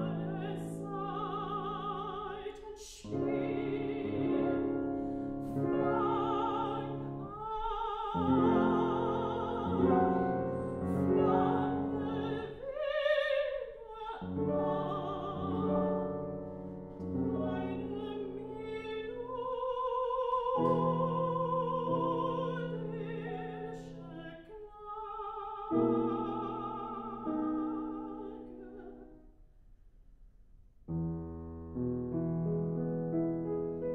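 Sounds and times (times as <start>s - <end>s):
soprano singing with vibrato: 0.0s - 29.2s
grand piano: 0.0s - 33.9s.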